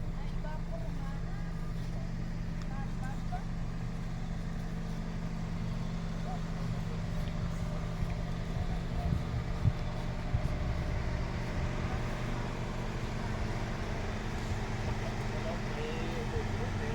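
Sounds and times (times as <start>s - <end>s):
car engine running: 0.6s - 16.9s.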